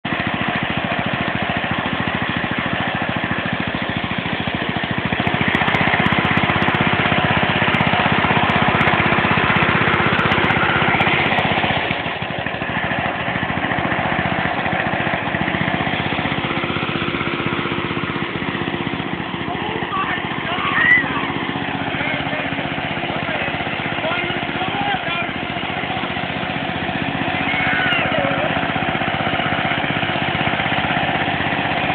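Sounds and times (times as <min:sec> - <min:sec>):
lawn mower engine running: 0:00.0 - 0:31.9.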